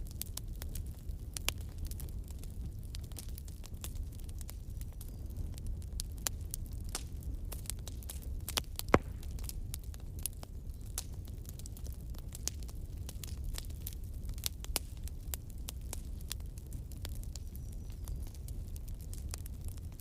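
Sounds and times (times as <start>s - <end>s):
bonfire crackling and popping: 0.0s - 20.0s
low rumble of flame: 0.0s - 20.0s.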